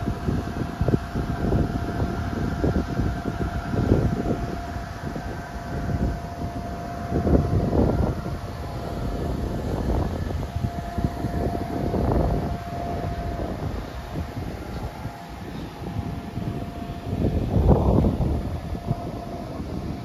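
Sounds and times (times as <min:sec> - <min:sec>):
blower droning with whine: 0:00.0 - 0:20.0
wind buffeting microphone: 0:00.0 - 0:20.0.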